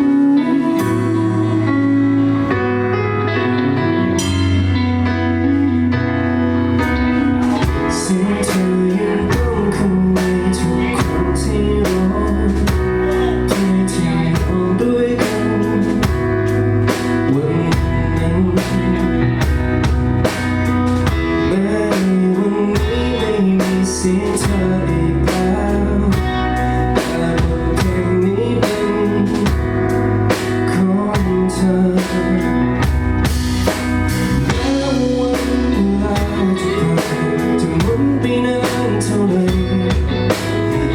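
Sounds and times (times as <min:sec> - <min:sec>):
guitars: 0:00.0 - 0:40.9
melodic lead line: 0:00.0 - 0:40.9
drum kit steady beat: 0:07.1 - 0:40.9.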